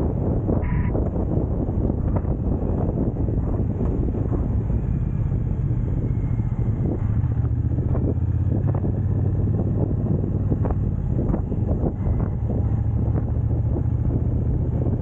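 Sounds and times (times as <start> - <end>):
wind buffeting microphone: 0.0 - 15.0
motorcycle engine running: 0.1 - 15.0.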